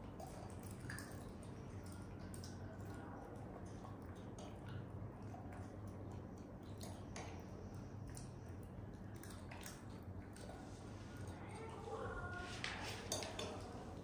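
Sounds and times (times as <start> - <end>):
monkey eating with wet squishing: 0.0 - 14.0
steady low hum: 0.0 - 14.0.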